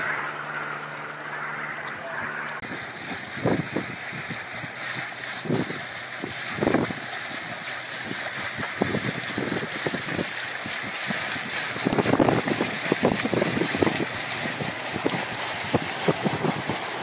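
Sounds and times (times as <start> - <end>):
wind buffeting microphone: 1.9 - 17.0.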